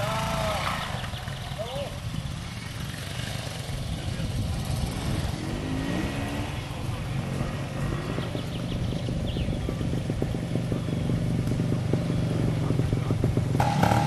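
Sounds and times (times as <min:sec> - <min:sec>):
faint voices: 0:00.0 - 0:13.6
motorcycle engine running: 0:00.0 - 0:14.0.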